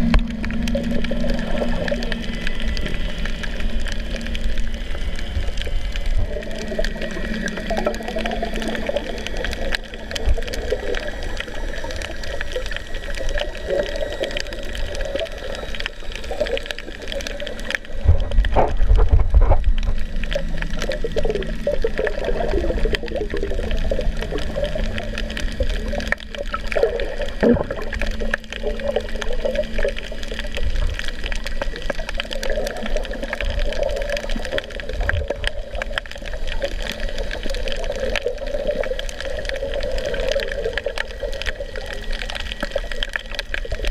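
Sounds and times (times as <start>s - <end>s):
low rumble of water: 0.0s - 43.9s
muffled underwater water noise: 0.0s - 43.9s.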